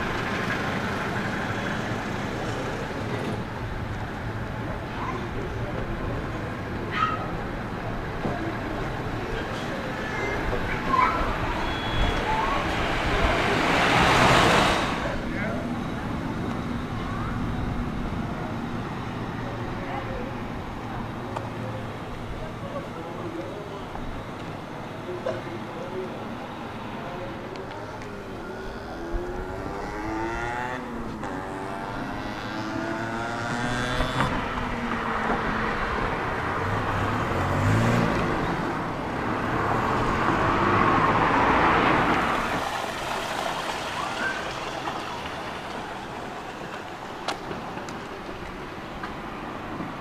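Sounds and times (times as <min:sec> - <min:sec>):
car engine: 0:00.0 - 0:50.0
car passing: 0:00.0 - 0:50.0.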